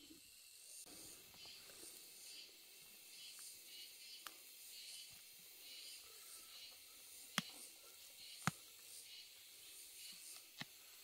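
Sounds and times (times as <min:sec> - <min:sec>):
high-pitched hiss of insects: 0:00.0 - 0:11.0.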